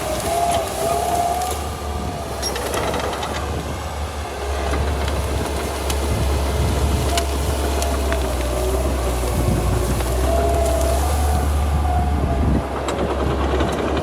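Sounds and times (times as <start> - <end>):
branches snapping: 0.0 - 12.2
diesel engine rumbling: 0.0 - 14.0
steel tracks clanking and squealing: 0.0 - 14.0.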